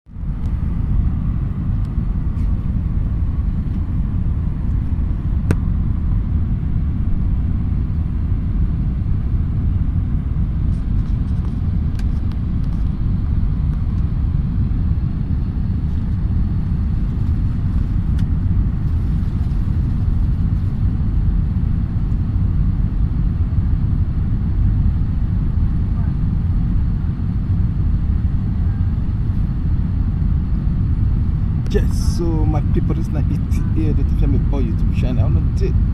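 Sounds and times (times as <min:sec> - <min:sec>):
airliner cabin rumble: 0:00.1 - 0:35.9.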